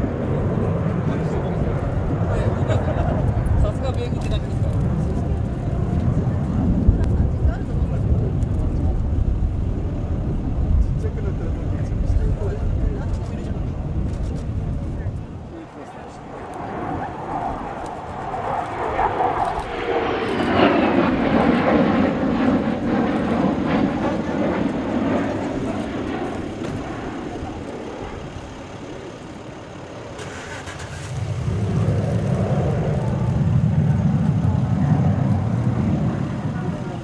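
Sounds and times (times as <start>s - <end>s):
jet engine roaring overhead: 0.0s - 37.0s.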